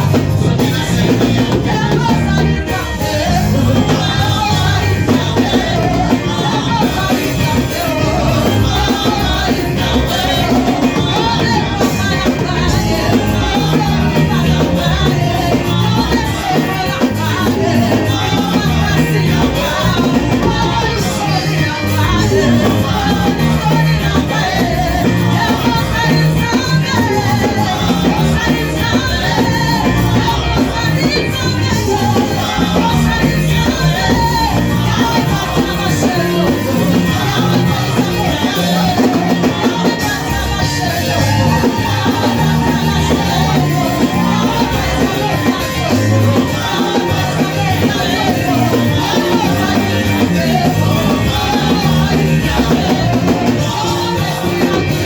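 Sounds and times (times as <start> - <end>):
live band playing: 0.0 - 55.0
voices singing: 0.0 - 55.0.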